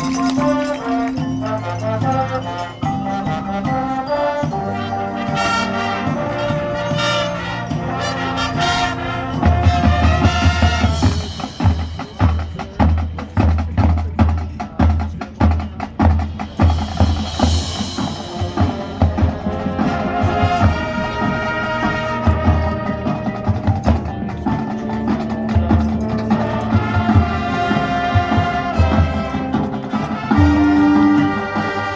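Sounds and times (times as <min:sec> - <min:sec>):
brass chords: 0:00.0 - 0:13.1, 0:16.2 - 0:31.9
busy percussion: 0:00.0 - 0:31.9.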